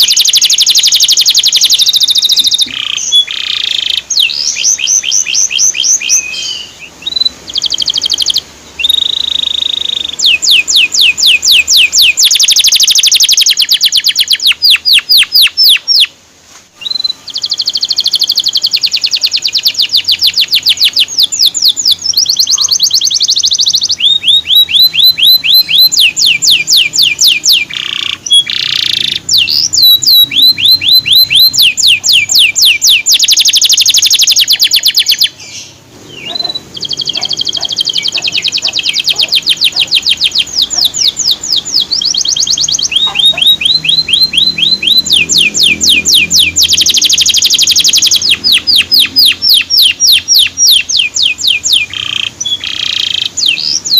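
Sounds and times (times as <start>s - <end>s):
canary singing rapid trills: 0.0s - 16.2s, 16.8s - 53.9s.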